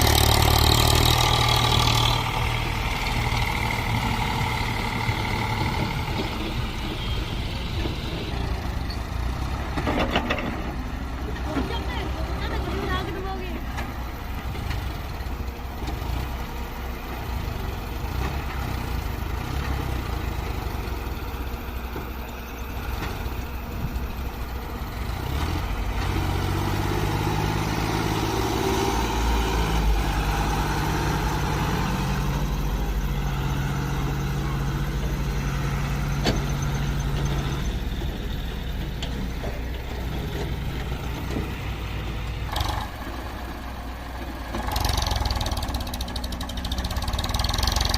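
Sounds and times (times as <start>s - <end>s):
tractor diesel engine: 0.0s - 47.9s.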